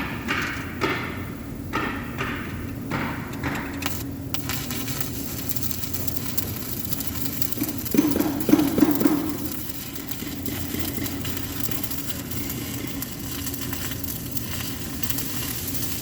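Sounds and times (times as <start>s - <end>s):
arc welder crackling hiss: 2.2s - 16.0s.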